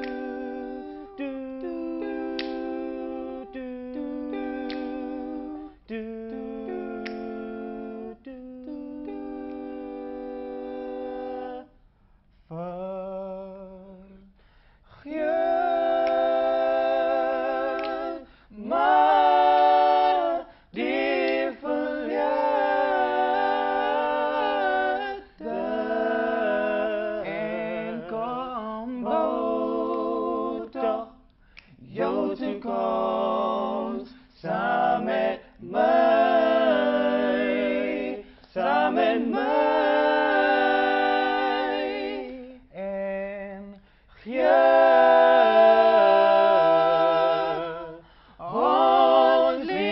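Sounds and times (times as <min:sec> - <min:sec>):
men singing a cappella harmony: 0:00.0 - 0:11.8, 0:12.4 - 0:49.9.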